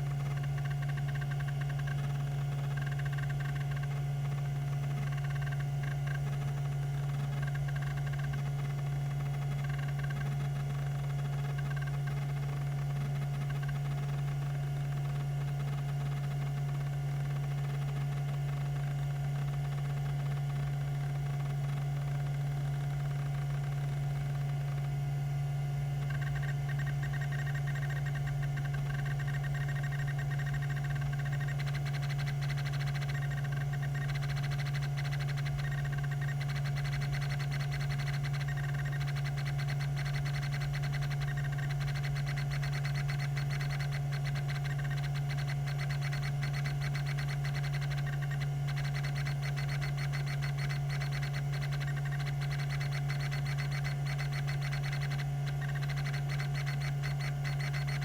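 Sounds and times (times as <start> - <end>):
hard drive humming and whining: 0.0 - 58.0.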